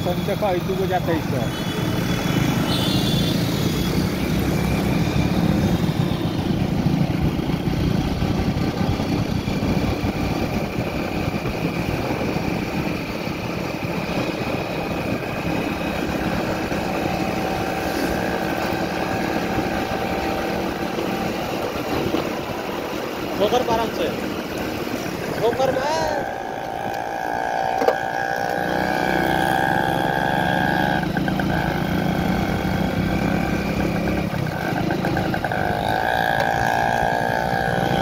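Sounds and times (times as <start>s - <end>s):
motorbike engine running: 0.0s - 38.0s
road and wind noise: 0.0s - 38.0s.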